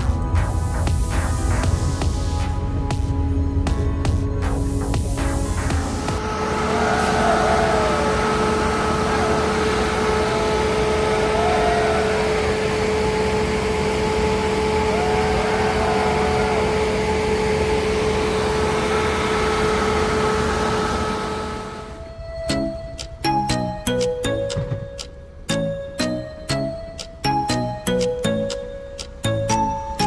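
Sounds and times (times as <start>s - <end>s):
passenger train rumbling: 0.0s - 30.0s.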